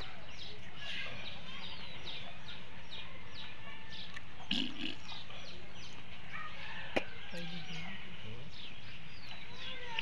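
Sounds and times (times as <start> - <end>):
bird chirping: 0.0 - 10.0
low background noise: 0.0 - 10.0.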